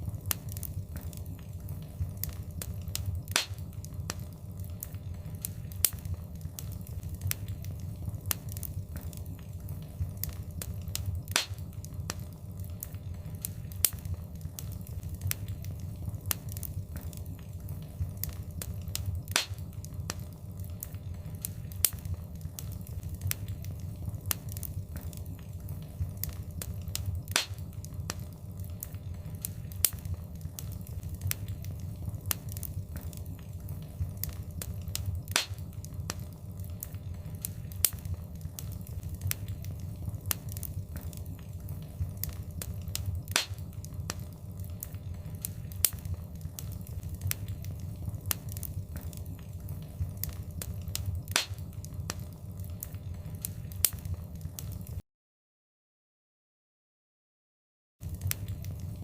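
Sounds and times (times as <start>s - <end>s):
fire snapping: 0.0s - 55.0s, 58.0s - 59.0s
low rumble of flames: 0.0s - 55.0s, 58.0s - 59.0s
wood fire crackling: 0.0s - 55.0s, 58.0s - 59.0s.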